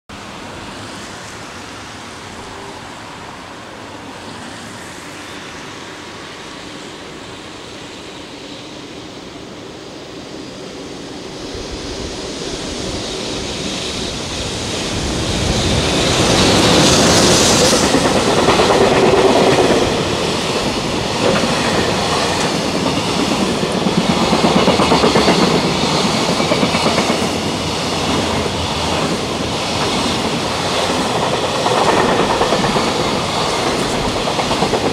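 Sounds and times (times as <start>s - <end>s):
electric locomotive passing: 0.1s - 34.9s.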